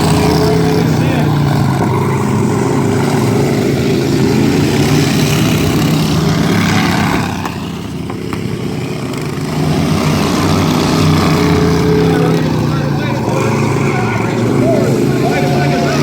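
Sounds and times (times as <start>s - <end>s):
racing lawn mower engines: 0.0s - 16.0s.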